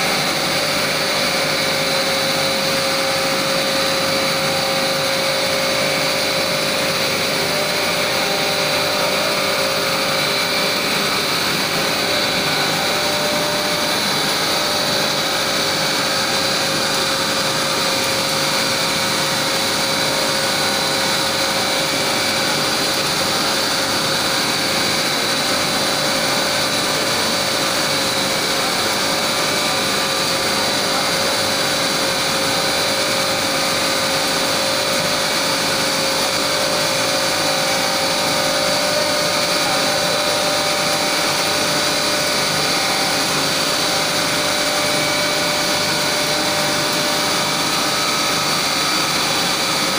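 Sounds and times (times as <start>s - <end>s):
extrusion machine whirring: 0.0s - 49.9s.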